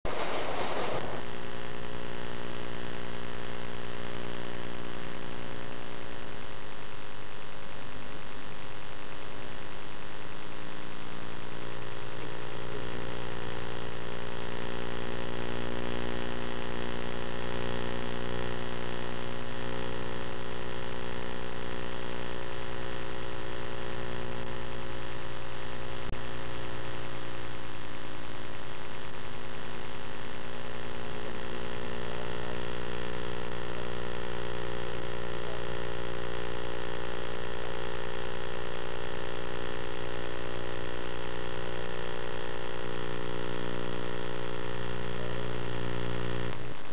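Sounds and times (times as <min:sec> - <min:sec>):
steady hum with overtones: 0:00.0 - 0:46.9.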